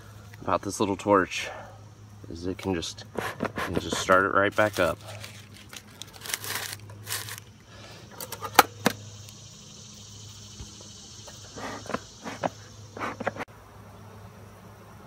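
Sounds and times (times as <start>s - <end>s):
insects humming: 0.0s - 15.0s.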